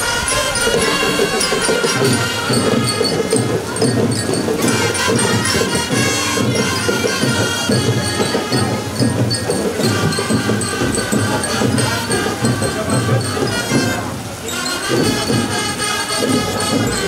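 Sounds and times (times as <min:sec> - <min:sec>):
trumpets playing: 0:00.0 - 0:09.0, 0:09.8 - 0:17.0
bell lyres: 0:00.0 - 0:17.0
marching drums: 0:00.0 - 0:17.0.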